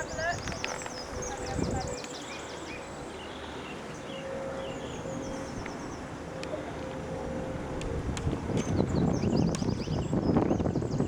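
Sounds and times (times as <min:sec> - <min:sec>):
birds chirping: 0:00.0 - 0:07.0, 0:08.5 - 0:11.0.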